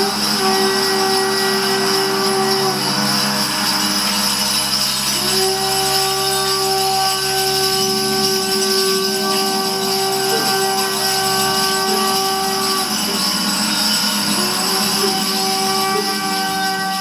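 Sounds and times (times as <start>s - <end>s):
droning tone: 0.0s - 17.0s
staff jingles and rattles shaken: 0.0s - 17.0s.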